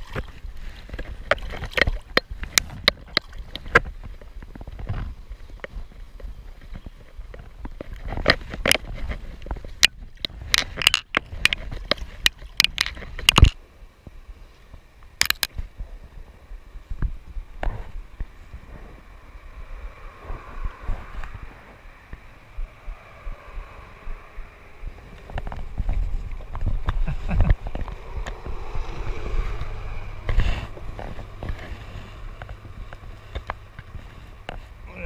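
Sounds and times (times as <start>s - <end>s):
wind rumble on microphone: 0.0s - 35.0s.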